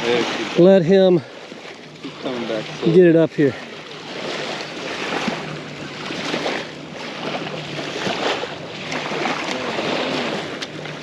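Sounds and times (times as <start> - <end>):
seawater washing at shoreline: 0.0 - 11.0.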